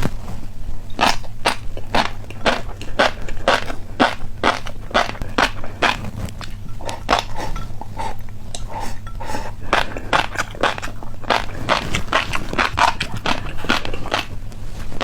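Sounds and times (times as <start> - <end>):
crunchy snack chewing: 0.9 - 15.0.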